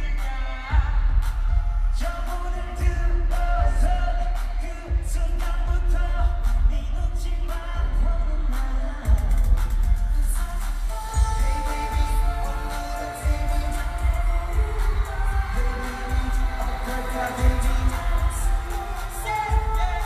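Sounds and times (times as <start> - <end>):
heavy bass and drum beat: 0.0 - 20.0
male group singing: 0.0 - 20.0.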